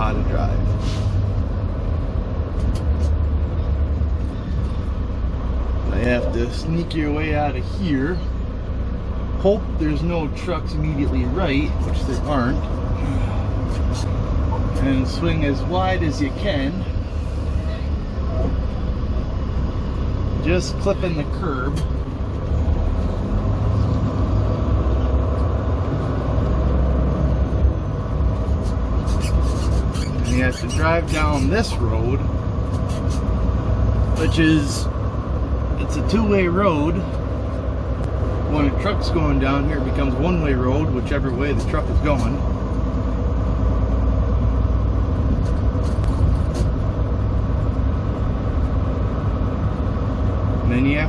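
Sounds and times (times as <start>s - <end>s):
truck diesel engine rumbling: 0.0s - 51.0s.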